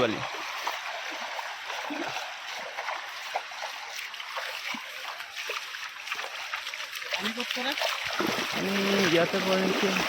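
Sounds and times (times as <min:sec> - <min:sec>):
stream water running and splashing: 0:00.0 - 0:10.0.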